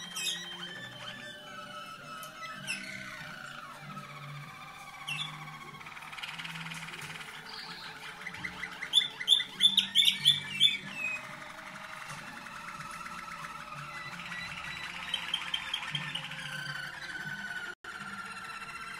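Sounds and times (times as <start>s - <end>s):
canaries singing trills: 0.0s - 18.9s.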